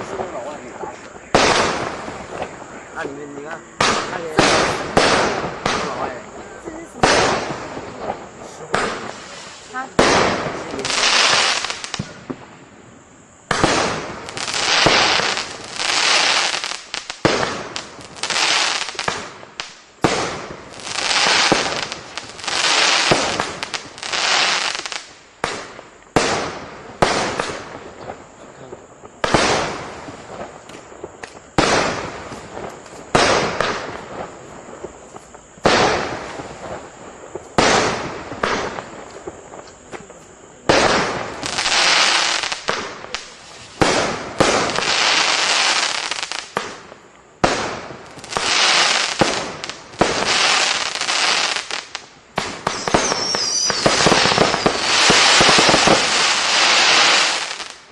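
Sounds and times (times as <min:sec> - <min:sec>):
firework reports with hiss: 0:00.0 - 0:57.9
small firework pops: 0:07.0 - 0:12.5, 0:13.4 - 0:57.9.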